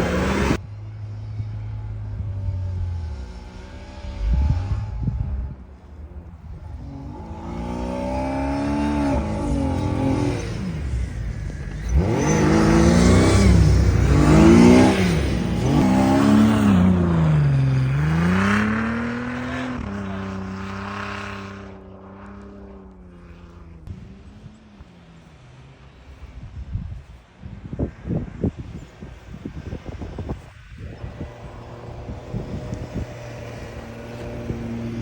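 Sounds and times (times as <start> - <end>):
engine revving: 0.0 - 26.1, 30.2 - 35.0.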